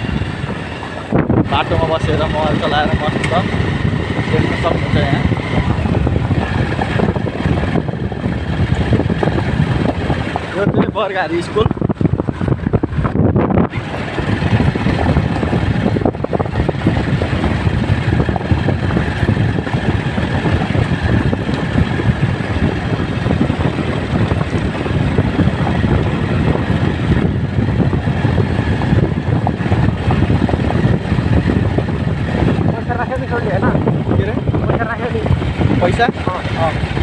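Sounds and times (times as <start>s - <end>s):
motorcycle engine: 0.0s - 37.0s
road noise: 0.0s - 37.0s
wind rushing over microphone: 0.0s - 37.0s.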